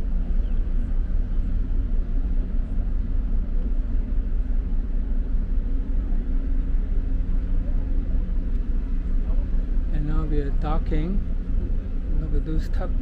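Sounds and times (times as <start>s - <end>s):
ship engines rumbling: 0.0s - 13.0s.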